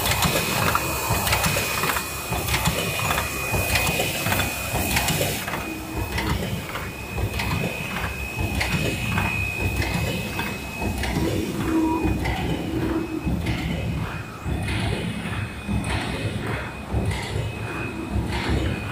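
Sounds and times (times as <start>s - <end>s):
high machine whine: 0.0s - 18.9s
machine clattering: 0.0s - 18.9s.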